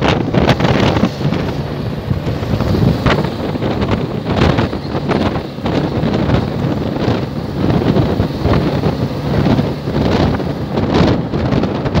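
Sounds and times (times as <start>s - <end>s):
car road noise: 0.0s - 12.0s
wind buffeting microphone: 0.0s - 12.0s.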